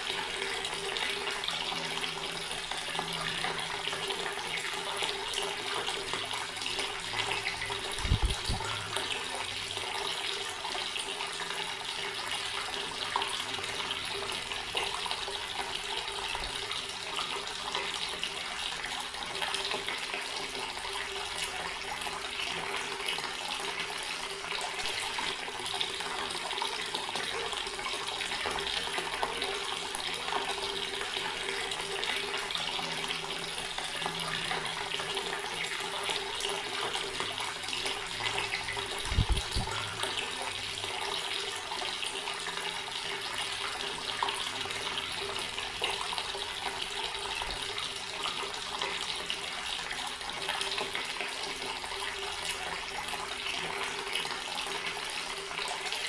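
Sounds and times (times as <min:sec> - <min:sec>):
water tap running: 0:00.0 - 0:56.0.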